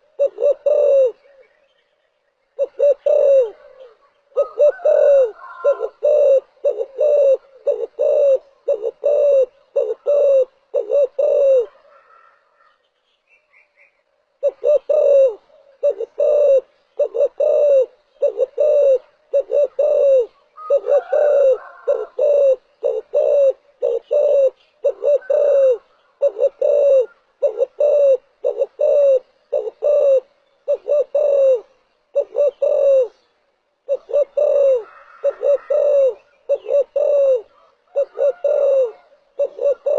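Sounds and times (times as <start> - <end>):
dove cooing: 0.0 - 1.6, 2.6 - 12.7, 14.4 - 39.9.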